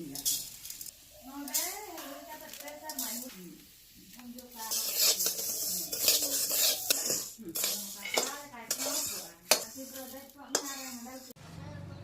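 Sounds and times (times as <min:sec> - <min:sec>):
metal utensil scraping a pan: 0:00.0 - 0:03.3, 0:04.3 - 0:11.4.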